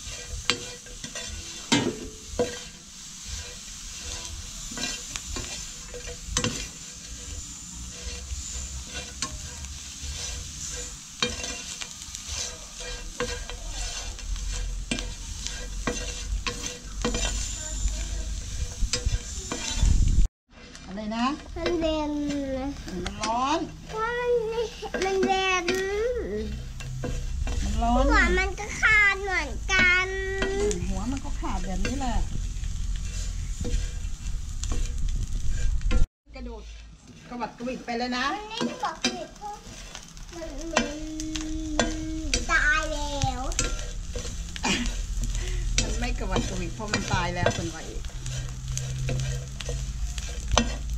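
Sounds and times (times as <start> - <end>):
frying hiss: 0.0 - 50.9
light sizzle: 0.0 - 50.9
spatula scraping frying pan: 0.0 - 50.9.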